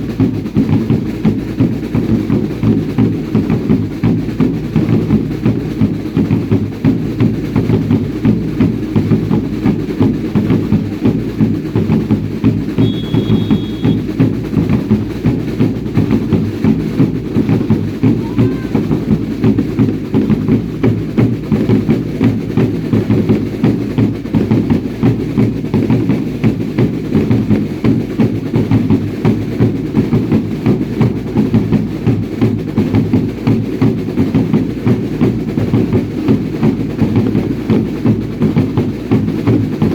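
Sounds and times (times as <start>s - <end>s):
deep bass drum pulse: 0.0s - 39.9s
drums beating steady rhythm: 0.0s - 39.9s.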